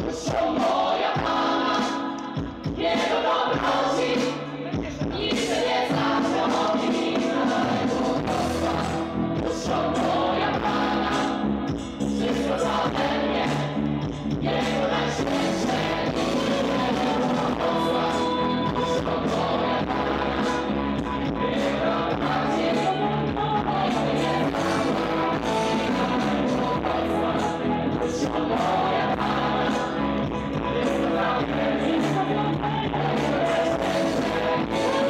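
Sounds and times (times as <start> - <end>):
vocal ensemble singing: 0.0 - 35.0.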